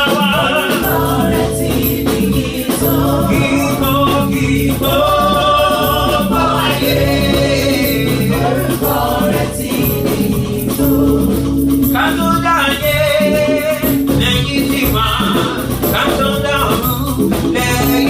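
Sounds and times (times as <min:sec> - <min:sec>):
band with steady bass line: 0:00.0 - 0:18.0
voices singing together: 0:00.0 - 0:18.0.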